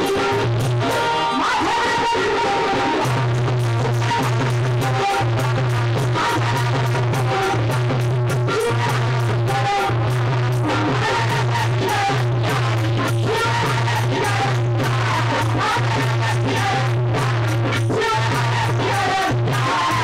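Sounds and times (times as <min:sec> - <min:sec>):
percussion strokes: 0:00.0 - 0:20.0.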